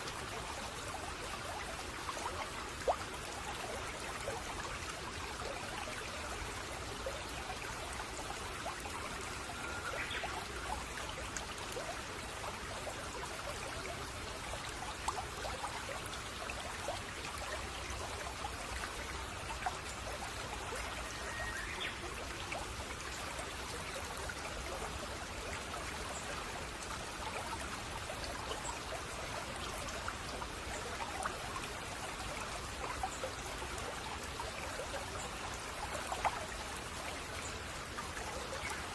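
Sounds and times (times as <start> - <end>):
brook babbling and trickling: 0.0 - 38.9.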